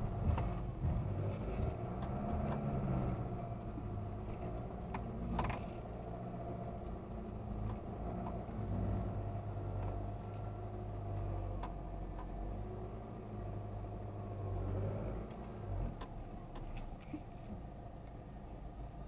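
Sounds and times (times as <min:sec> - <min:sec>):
car engine running low rumble: 0:00.0 - 0:19.0.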